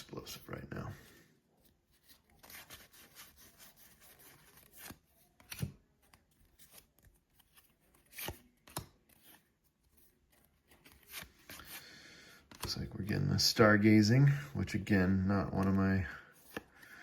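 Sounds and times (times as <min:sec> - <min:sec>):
trading cards rustling and sliding: 0:00.0 - 0:17.0.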